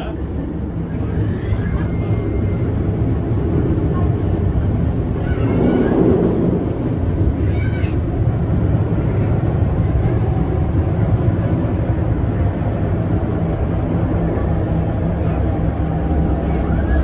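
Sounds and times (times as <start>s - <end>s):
steam train rumbling: 0.0s - 17.0s.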